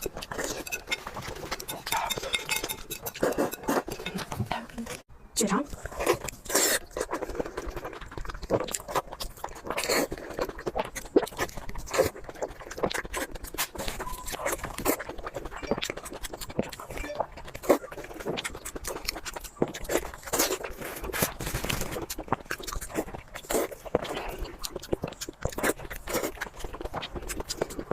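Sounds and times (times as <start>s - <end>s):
person chewing noisily: 0.0s - 5.1s, 5.7s - 27.9s.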